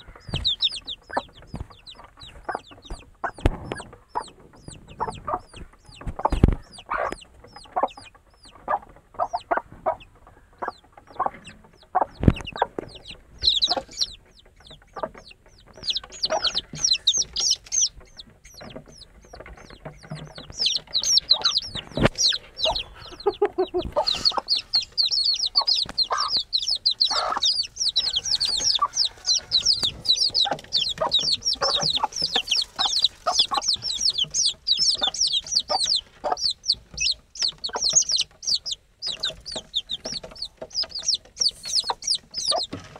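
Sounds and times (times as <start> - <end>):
chicks cheeping: 0.0 - 42.9
hen clucking: 0.0 - 42.9.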